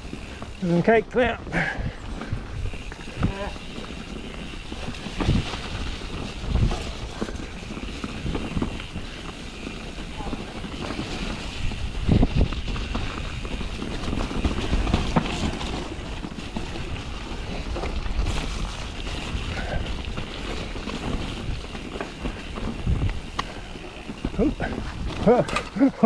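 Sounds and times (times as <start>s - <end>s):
bike tyres on dirt trail: 0.0s - 26.0s
wind buffeting microphone: 1.2s - 25.8s
bike knocks and rattles: 2.2s - 26.0s.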